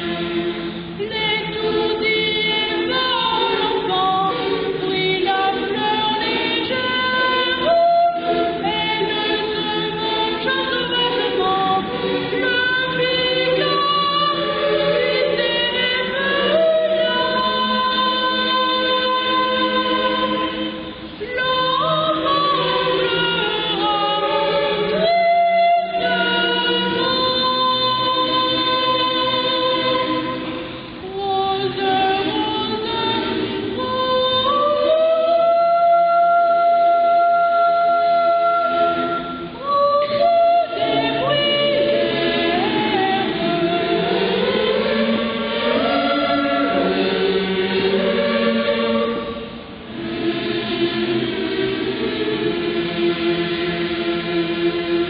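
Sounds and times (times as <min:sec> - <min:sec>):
boys' choir singing: 0:00.0 - 0:55.0.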